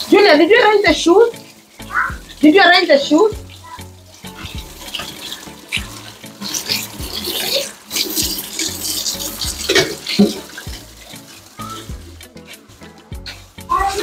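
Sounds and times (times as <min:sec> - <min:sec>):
tap water running into sink: 0:00.0 - 0:14.0
background music with bass line: 0:00.9 - 0:02.5, 0:03.3 - 0:14.0.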